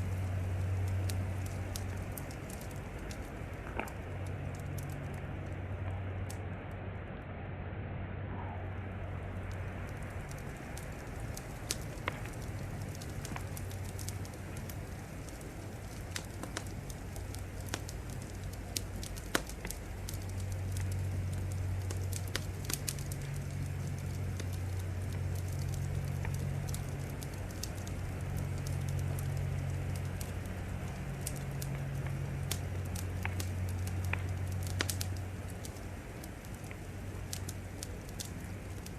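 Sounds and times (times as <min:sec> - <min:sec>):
wood fire crackling: 0:00.0 - 0:07.2, 0:08.3 - 0:38.9
low rumble: 0:00.0 - 0:38.9.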